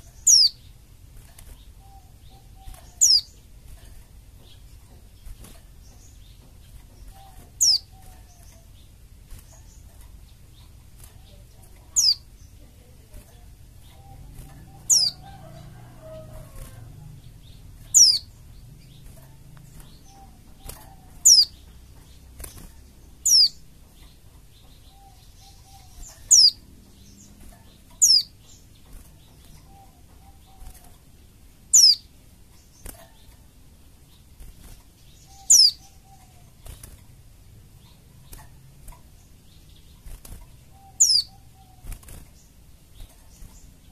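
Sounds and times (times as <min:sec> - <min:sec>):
faint lower chirping: 0:00.0 - 0:43.9.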